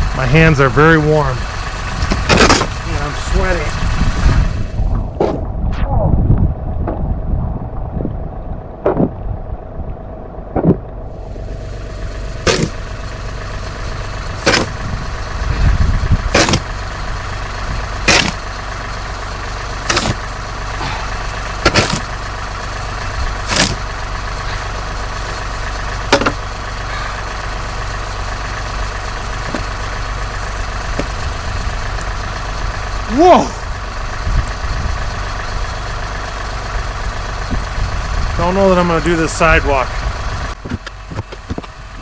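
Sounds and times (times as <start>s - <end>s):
engine hum: 0.0s - 42.0s.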